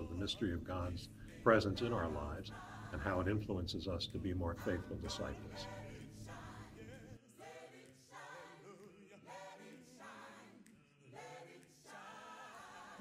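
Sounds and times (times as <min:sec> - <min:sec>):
choral singing: 0:00.0 - 0:13.0.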